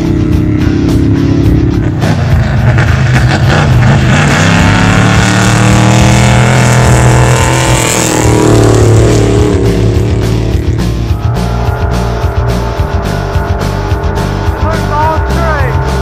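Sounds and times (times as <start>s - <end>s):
truck engine speeding past: 0.0s - 16.0s.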